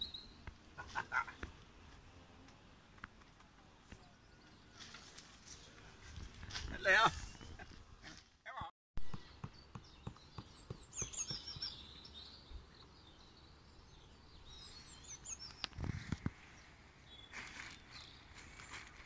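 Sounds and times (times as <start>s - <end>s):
small birds chirping: 0.0s - 1.9s, 2.5s - 8.2s, 9.1s - 19.0s.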